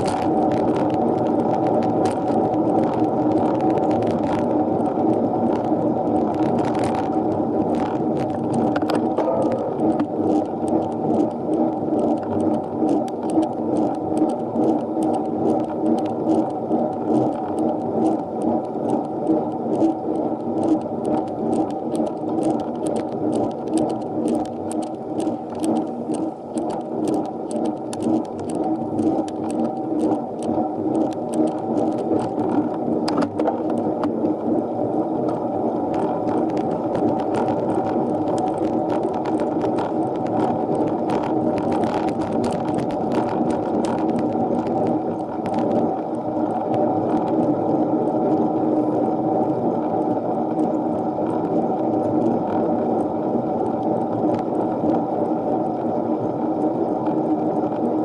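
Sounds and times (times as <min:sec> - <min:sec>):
bicycle clicks: 0:00.0 - 0:34.5, 0:35.2 - 0:48.7, 0:49.9 - 0:55.9
bicycle whirring and rattling: 0:00.0 - 0:58.0.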